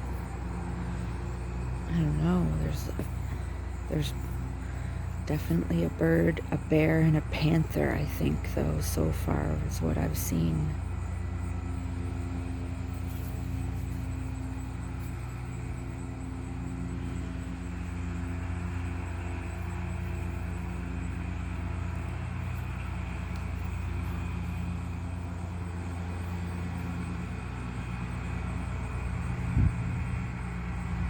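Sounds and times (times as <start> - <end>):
lawn mower engine droning: 0.0 - 31.0.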